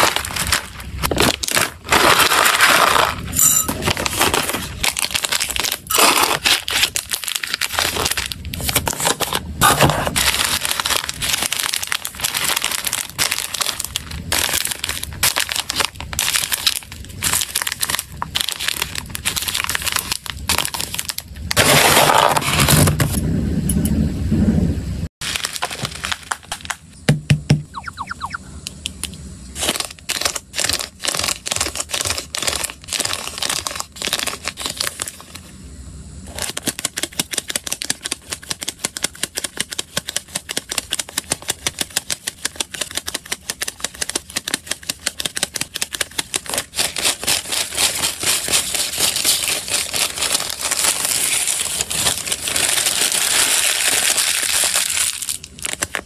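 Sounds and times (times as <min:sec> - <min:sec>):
paper crumpling: 0:00.0 - 0:22.6, 0:25.2 - 0:26.7, 0:29.6 - 0:35.4, 0:36.3 - 0:56.0.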